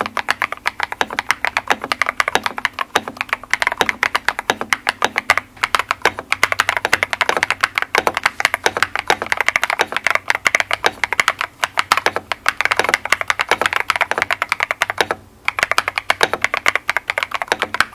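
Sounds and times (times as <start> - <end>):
fast typing on mechanical keyboard: 0.0 - 17.9.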